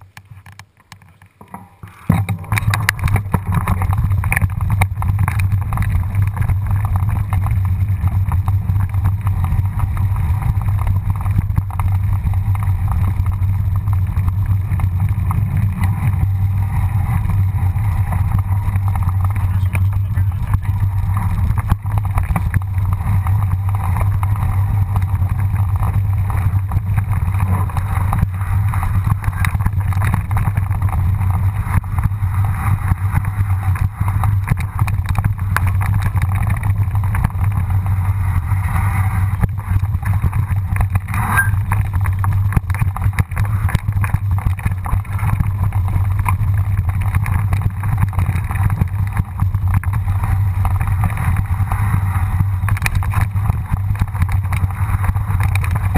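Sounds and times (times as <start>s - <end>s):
bike rattling over stones: 0.0s - 55.9s
low rumble of bike ride: 0.0s - 55.9s.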